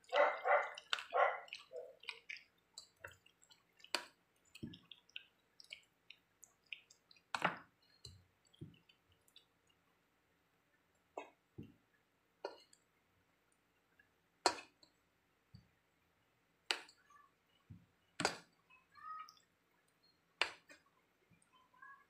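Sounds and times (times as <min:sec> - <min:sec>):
wet squelches of batter stirring: 0:00.0 - 0:22.0.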